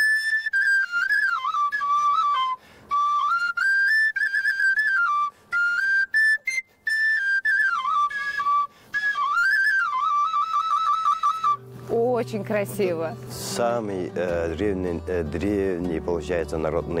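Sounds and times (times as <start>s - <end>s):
wooden pipe folk melody: 0.0s - 17.0s.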